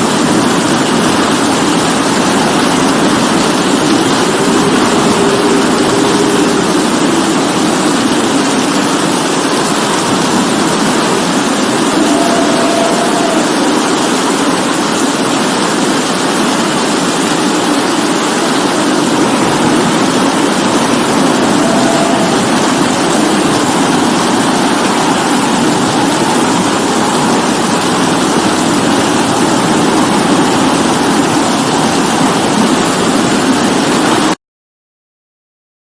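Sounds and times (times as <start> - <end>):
heavy rain falling: 0.0 - 34.4.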